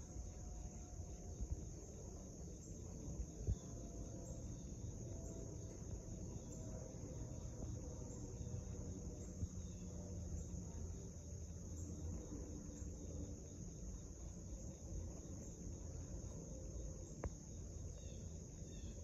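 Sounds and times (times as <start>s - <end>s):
insects chirring: 0.0s - 19.0s
low background rumble: 0.0s - 19.0s.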